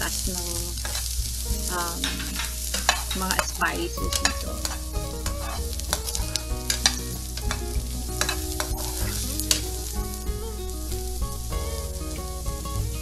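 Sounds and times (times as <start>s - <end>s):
food sizzling in oil: 0.0s - 12.2s.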